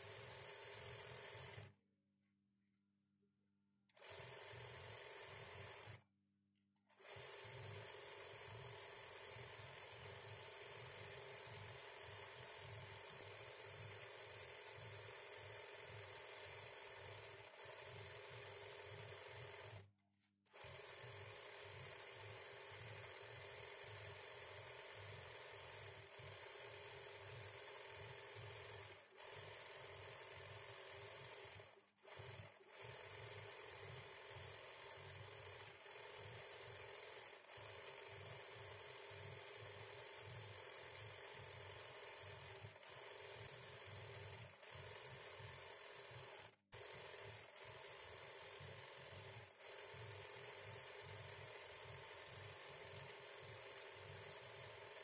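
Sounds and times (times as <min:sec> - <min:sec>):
sewing machine stitching: 0:00.0 - 0:01.8, 0:03.9 - 0:06.1, 0:06.8 - 0:55.0.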